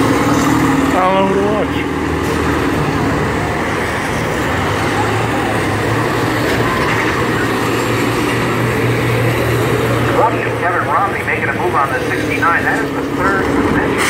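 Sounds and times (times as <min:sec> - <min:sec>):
bus engines droning: 0:00.0 - 0:14.0.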